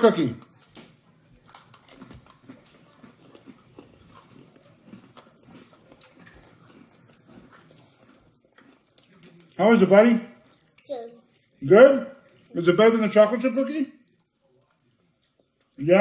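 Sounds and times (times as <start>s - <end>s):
child chewing a cookie: 0.0s - 16.0s.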